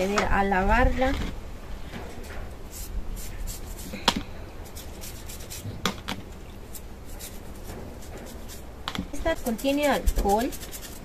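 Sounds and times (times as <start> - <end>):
faint rubbing and taps: 0.0 - 11.0.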